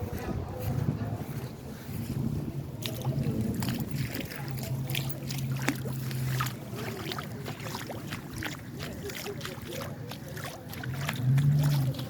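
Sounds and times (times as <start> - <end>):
floodwater splashing and trickling: 0.0 - 12.0.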